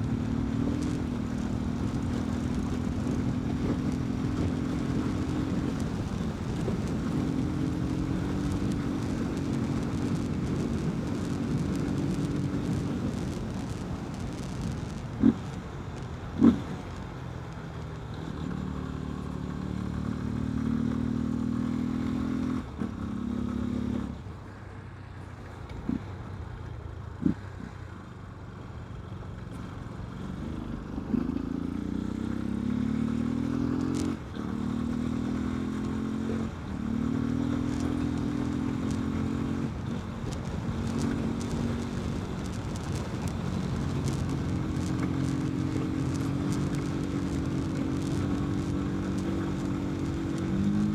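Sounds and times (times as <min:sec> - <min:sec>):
motorcycle engine revving through gears: 0:00.0 - 0:24.5, 0:29.6 - 0:50.9.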